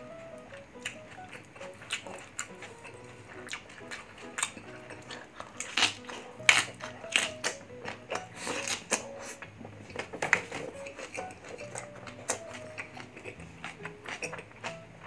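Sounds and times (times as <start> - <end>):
light background music: 0.0 - 15.0
person chewing and smacking: 0.0 - 15.0.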